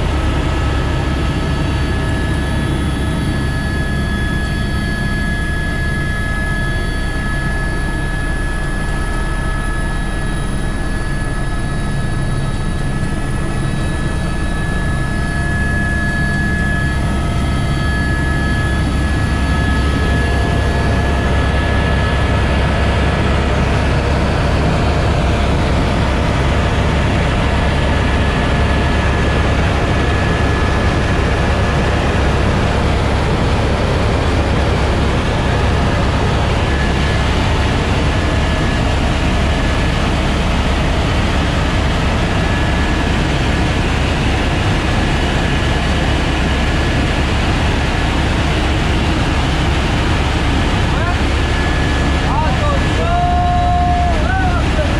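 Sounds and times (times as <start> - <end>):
helicopter rotor and turbine: 0.0 - 54.9.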